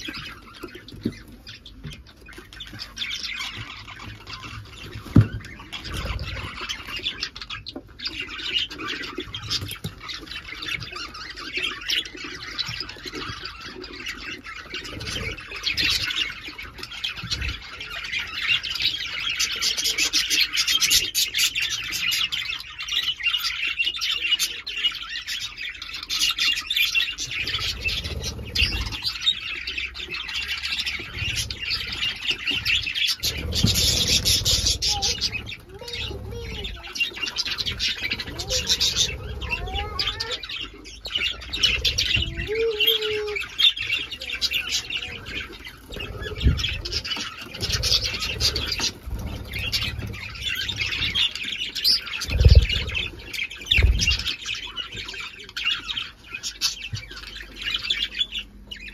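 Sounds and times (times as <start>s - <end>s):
budgerigars chirping and squawking: 0.0s - 58.9s.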